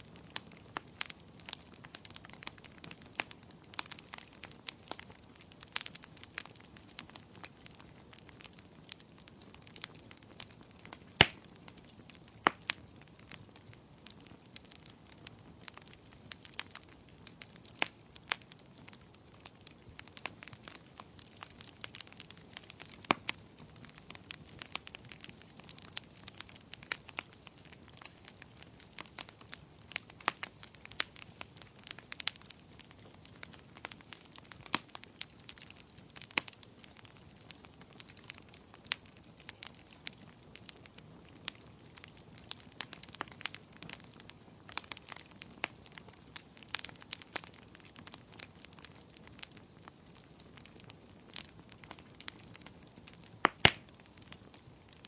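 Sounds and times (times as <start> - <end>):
faint steady hiss: 0.0 - 55.0
fire crackling and popping: 0.0 - 55.0.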